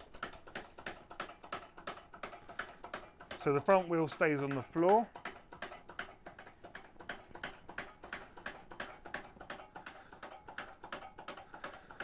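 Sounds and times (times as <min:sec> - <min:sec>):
foot pump clicking: 0:00.0 - 0:12.0.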